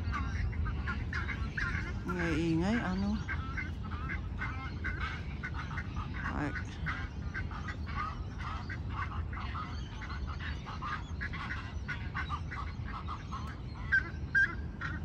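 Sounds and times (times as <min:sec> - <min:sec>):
low rumble: 0:00.0 - 0:13.6
waterbirds calling: 0:00.0 - 0:15.0.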